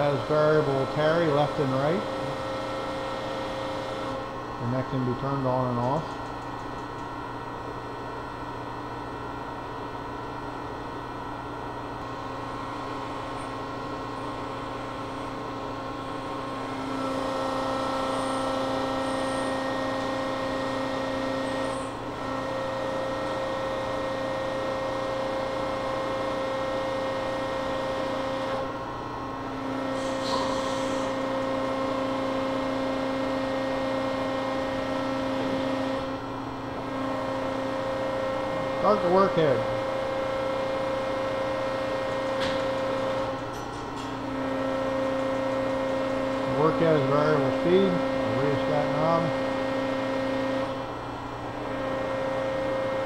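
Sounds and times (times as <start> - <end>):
grinder machine hum and whine: 0.0 - 53.0.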